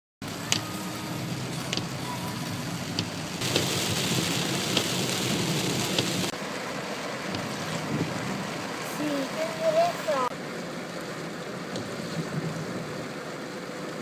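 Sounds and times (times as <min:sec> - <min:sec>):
raindrops tapping nearby: 0:00.2 - 0:10.1, 0:10.9 - 0:14.0
heavy rain falling: 0:00.2 - 0:14.0.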